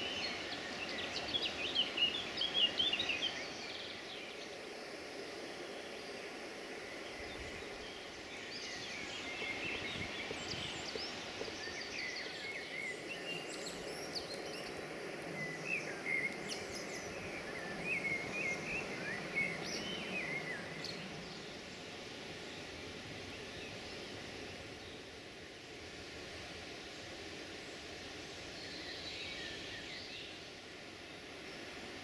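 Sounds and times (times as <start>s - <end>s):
low rushing background noise: 0.0s - 32.0s
songbirds chirping and warbling: 0.0s - 32.0s.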